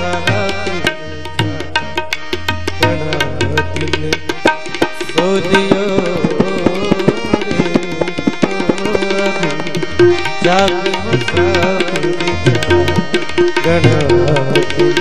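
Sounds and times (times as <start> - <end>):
ornamented melody line: 0.0 - 15.0
tabla playing quick rhythm: 0.0 - 15.0.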